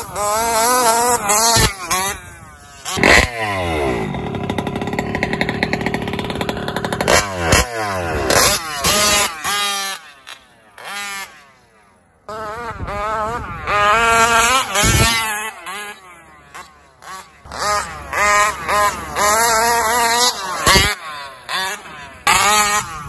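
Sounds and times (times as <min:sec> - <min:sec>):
model engine revving: 0:00.0 - 0:23.0.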